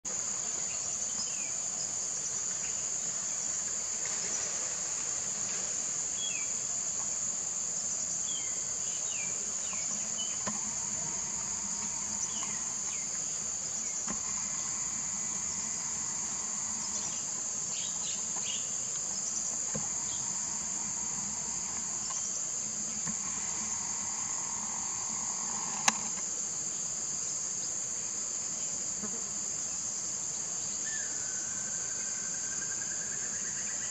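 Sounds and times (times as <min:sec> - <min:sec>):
insects chorus: 0:00.1 - 0:33.9.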